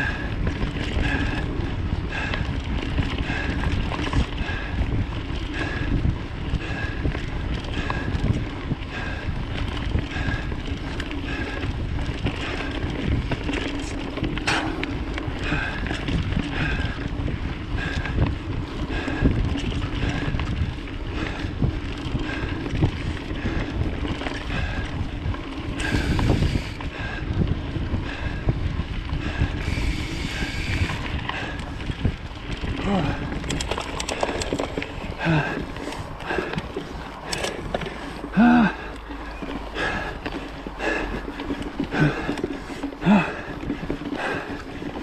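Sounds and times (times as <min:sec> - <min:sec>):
bike rattling and clicking: 0:00.0 - 0:45.0
tyres rumbling on dirt trail: 0:00.0 - 0:45.0
wind buffeting microphone: 0:00.0 - 0:45.0.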